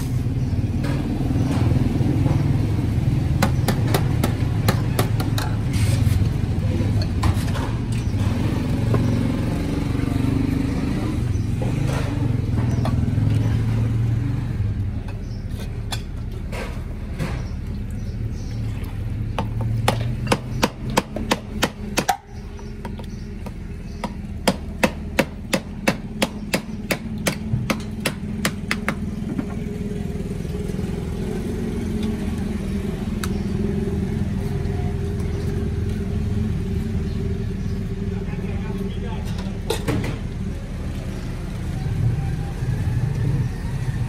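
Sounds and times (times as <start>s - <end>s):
low engine hum: 0.0s - 44.0s.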